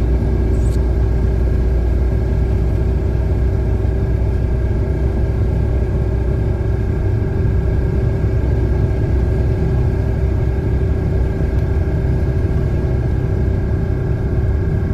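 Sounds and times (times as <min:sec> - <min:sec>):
mechanical rumble with whine: 0:00.0 - 0:14.9.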